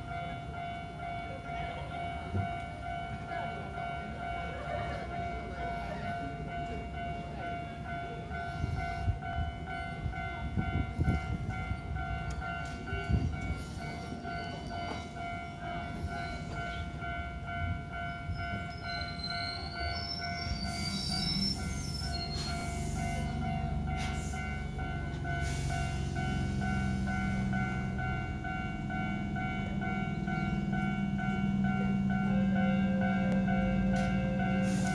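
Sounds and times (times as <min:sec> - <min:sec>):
crossing warning bell ringing: 0:00.0 - 0:34.9
electric train rumbling: 0:00.0 - 0:34.9.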